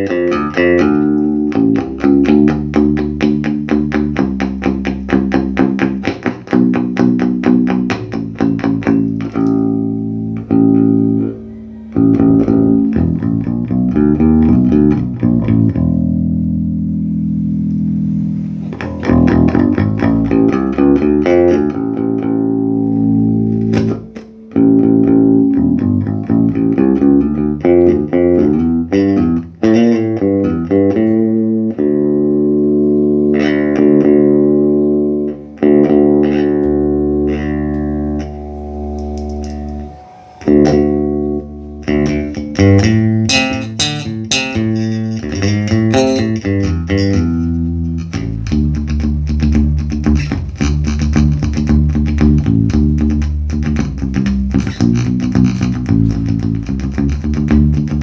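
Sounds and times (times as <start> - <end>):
bass guitar notes ringing: 0.0 - 58.0.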